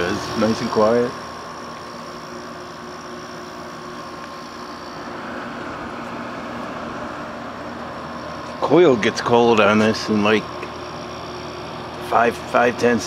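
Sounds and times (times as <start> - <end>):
air conditioner fan whoosh: 0.0 - 13.0
compressor humming: 0.0 - 13.0.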